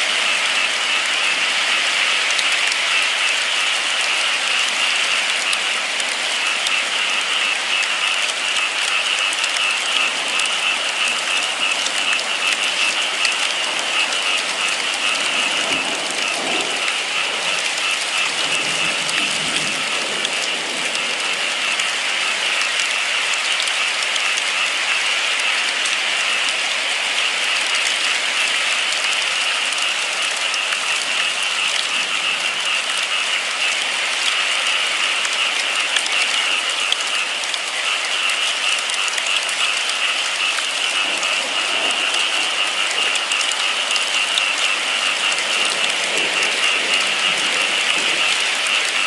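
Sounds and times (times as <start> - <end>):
heavy rain patter: 0.0 - 49.0.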